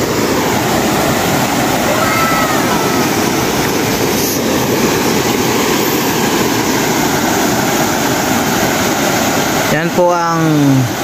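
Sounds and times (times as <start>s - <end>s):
river rapids rushing over rocks: 0.0s - 9.8s.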